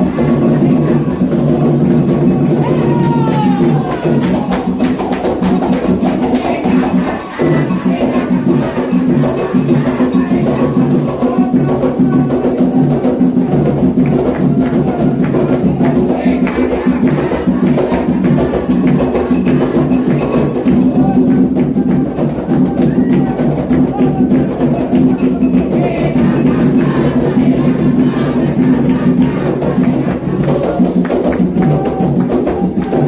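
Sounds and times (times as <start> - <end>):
hand drums playing dance rhythm: 0.0 - 33.0
other percussion beating: 0.0 - 33.0.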